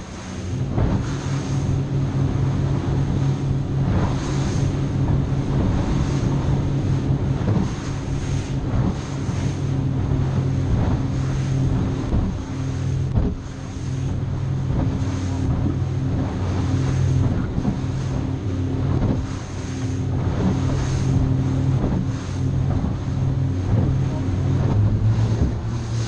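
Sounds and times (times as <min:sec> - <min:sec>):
hull slapping through waves: 0:00.0 - 0:26.0
outboard engine droning: 0:00.0 - 0:26.0
rushing water: 0:00.0 - 0:26.0
wind buffeting microphone: 0:00.0 - 0:26.0.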